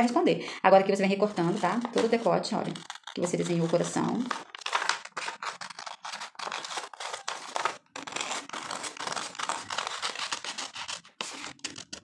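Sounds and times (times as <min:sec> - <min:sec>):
scissors cutting paper: 0:01.1 - 0:12.0
paper crinkling and rustling: 0:01.3 - 0:12.0.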